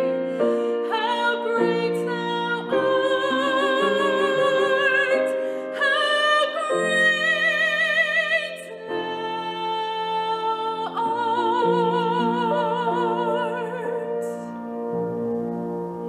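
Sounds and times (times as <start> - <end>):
grand piano chords: 0.0 - 16.0
woman singing with vibrato: 0.8 - 14.5.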